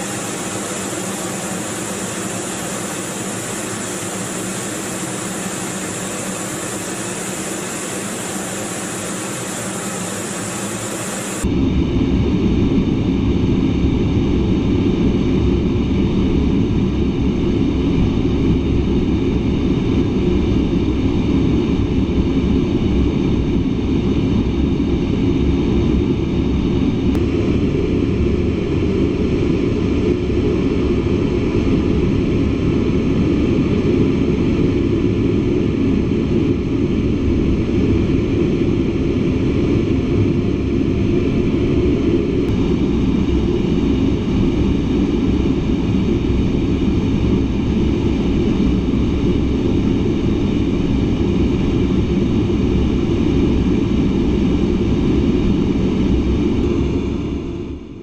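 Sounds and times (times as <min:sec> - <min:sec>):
jet engine and airflow rush: 0:00.0 - 0:58.0.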